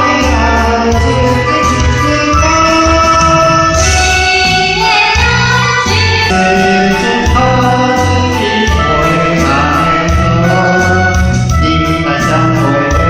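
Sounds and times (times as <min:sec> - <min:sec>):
karaoke backing track with bass: 0:00.0 - 0:13.0
vocal duet singing: 0:00.0 - 0:13.0.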